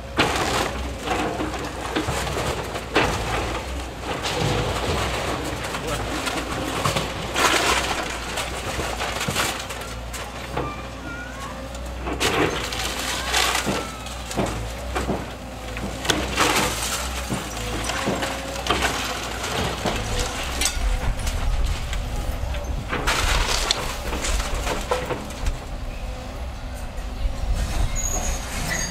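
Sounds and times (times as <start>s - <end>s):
wood splintering and cracking: 0.0s - 10.6s, 11.7s - 25.9s
excavator rumbling: 0.0s - 28.9s.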